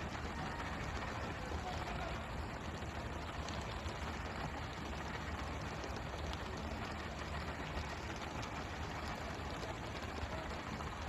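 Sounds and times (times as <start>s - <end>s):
boat engine humming: 0.0s - 11.0s
water sprayers hitting the sea: 0.0s - 11.0s.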